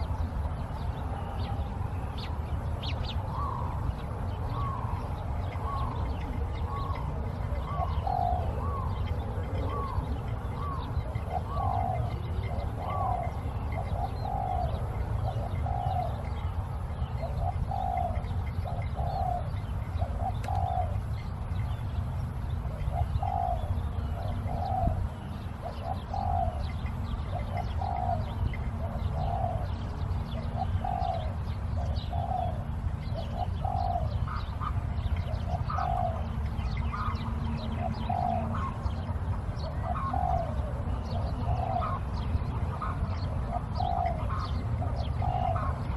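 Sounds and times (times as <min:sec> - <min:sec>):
small birds chirping: 0:00.0 - 0:45.9
dove cooing: 0:02.8 - 0:21.2, 0:22.6 - 0:45.9.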